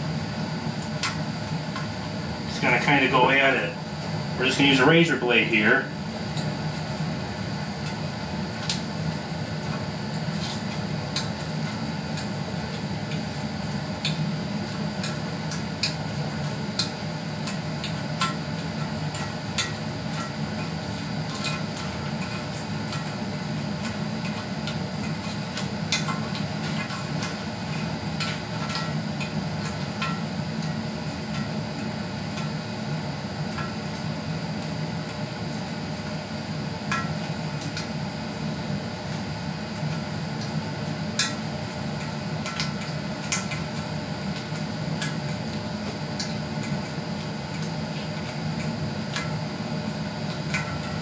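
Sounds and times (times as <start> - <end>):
steady background hum: 0.0 - 51.0.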